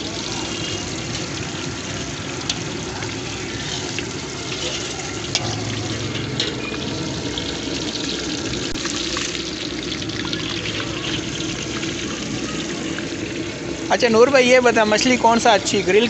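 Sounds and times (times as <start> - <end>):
hot oil sizzling and crackling: 0.0 - 16.0.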